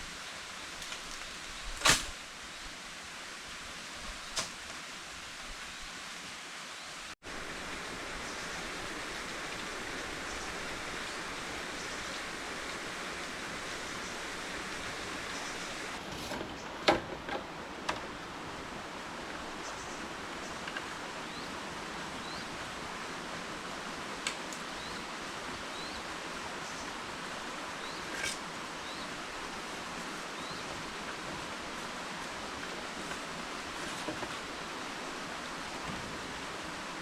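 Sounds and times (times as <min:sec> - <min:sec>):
rainforest background hiss: 0:00.0 - 0:37.0.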